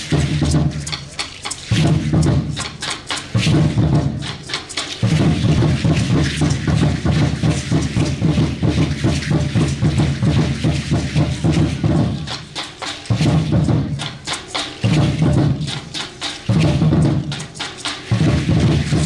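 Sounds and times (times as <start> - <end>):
ankle seed-pod rattles shaking: 0.0 - 19.0
large drum beaten fast: 0.0 - 19.0.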